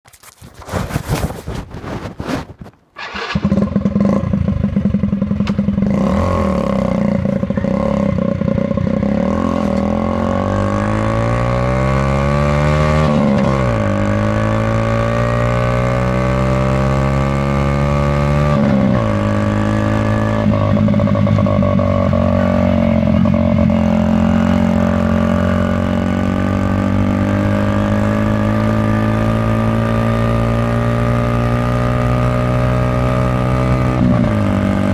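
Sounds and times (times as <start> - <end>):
small motorcycle engine accelerating: 3.0 - 34.9.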